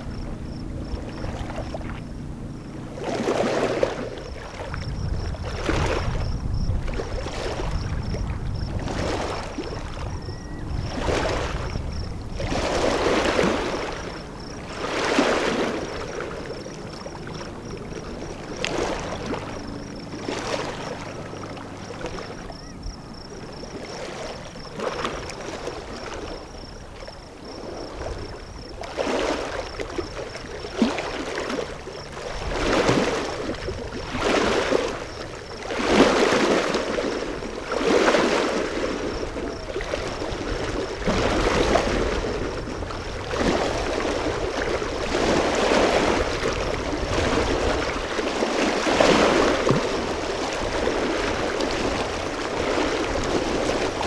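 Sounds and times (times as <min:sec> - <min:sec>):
water splashing in surges: 0:00.0 - 0:54.0.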